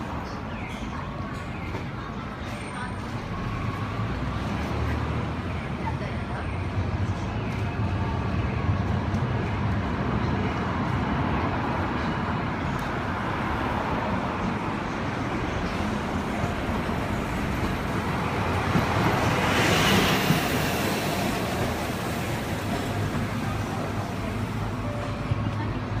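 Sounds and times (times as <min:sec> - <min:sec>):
bus passing by: 0:00.0 - 0:26.0
road traffic rushing: 0:00.0 - 0:26.0.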